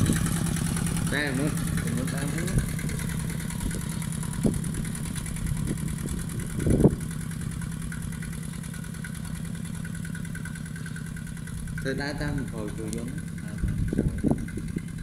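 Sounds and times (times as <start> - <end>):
diesel tractor engine under load: 0.0 - 15.0.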